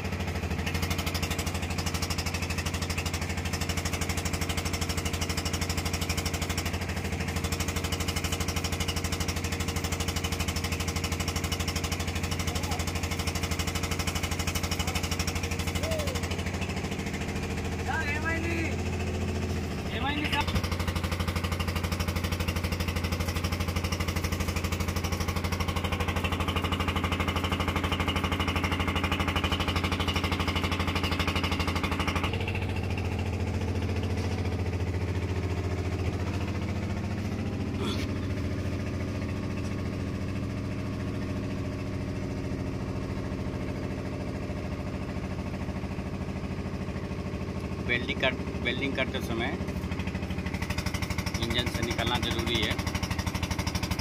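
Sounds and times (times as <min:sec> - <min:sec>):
engine running with even pulse: 0:00.0 - 0:54.0.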